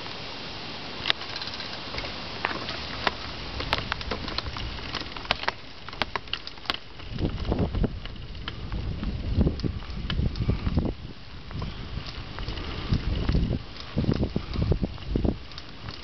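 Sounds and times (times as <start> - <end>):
bicycle clicks and rattles: 1.0 - 16.0
tyres rumbling on gravel: 1.0 - 16.0.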